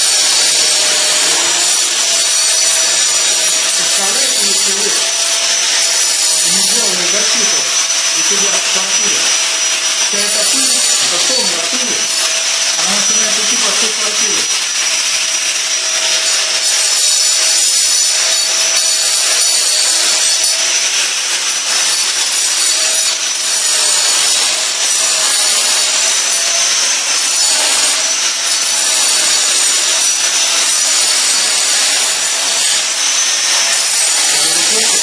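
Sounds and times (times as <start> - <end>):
angle grinder cutting concrete: 0.0 - 35.0.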